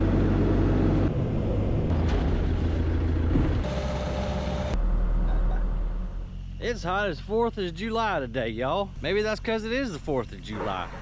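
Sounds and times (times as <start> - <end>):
heavy machinery diesel engines: 0.0 - 11.0.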